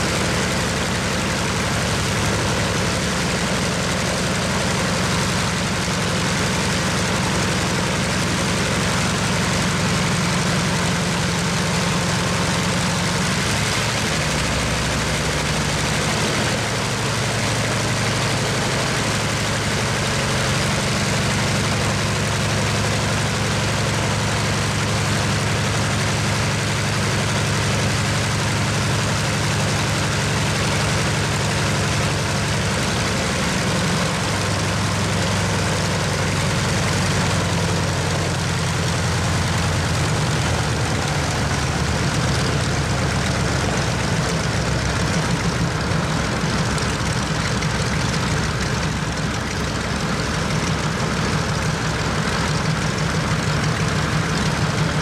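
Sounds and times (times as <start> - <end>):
propeller plane engine running: 0.0 - 55.0.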